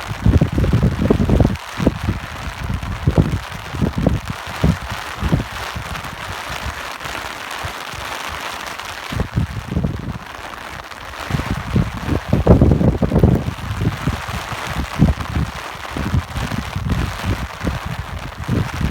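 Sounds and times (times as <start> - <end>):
rain hissing: 0.0 - 18.9
wind gusts on microphone: 0.0 - 18.9.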